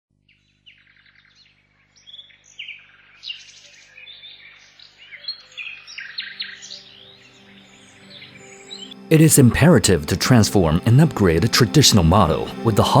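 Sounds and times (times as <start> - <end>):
songbirds chirping and trilling: 0.1 - 13.0.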